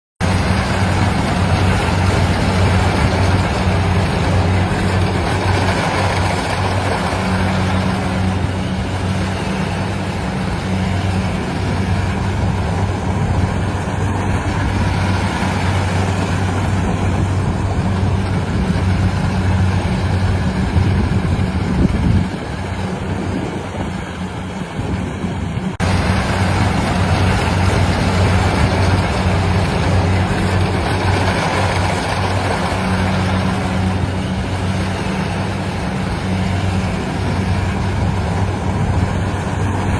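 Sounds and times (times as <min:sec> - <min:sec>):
broad mechanical rush: 0:00.2 - 0:39.9
harvesting machine engine drone: 0:00.2 - 0:39.9.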